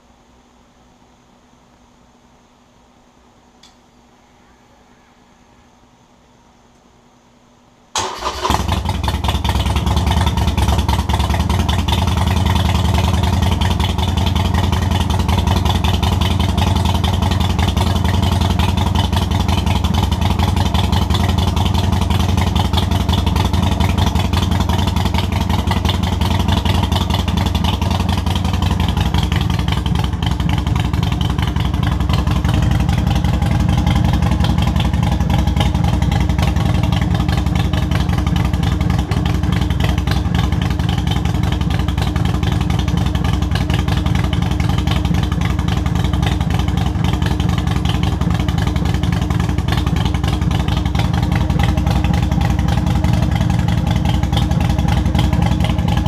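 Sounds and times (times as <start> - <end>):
motorcycle engine starting and idling: 7.9 - 56.0.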